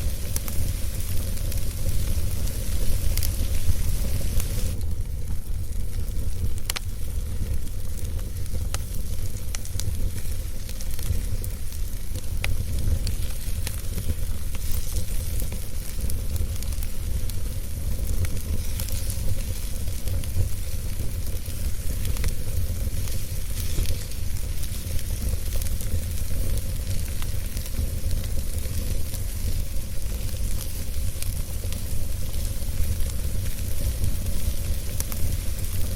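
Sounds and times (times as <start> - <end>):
fire pops and snaps: 0.0 - 35.9
wood fire crackling: 0.0 - 35.9.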